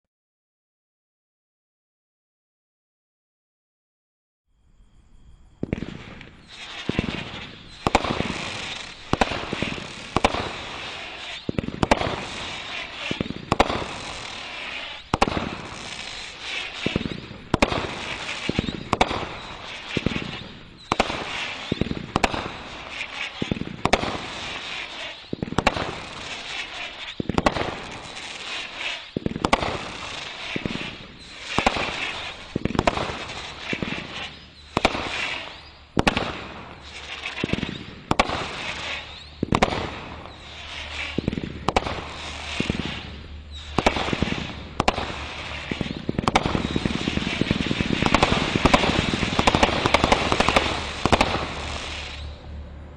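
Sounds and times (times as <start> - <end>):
firework cake shots whistling: 5.2 - 52.5.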